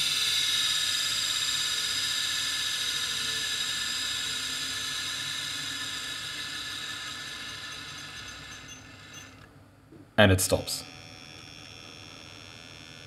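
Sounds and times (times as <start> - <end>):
hard drive spinning down: 0.0 - 9.5, 10.8 - 13.0.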